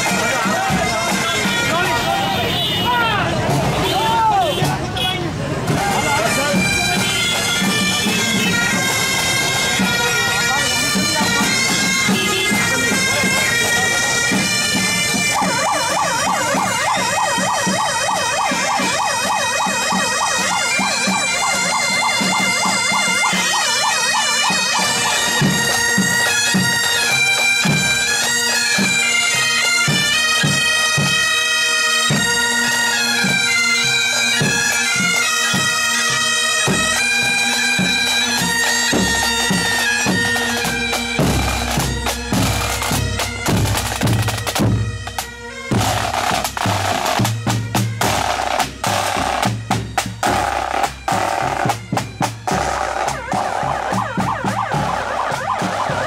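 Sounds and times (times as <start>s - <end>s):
bagpipes playing: 0.0s - 4.0s, 5.7s - 56.0s
marching drumbeats: 0.0s - 56.0s.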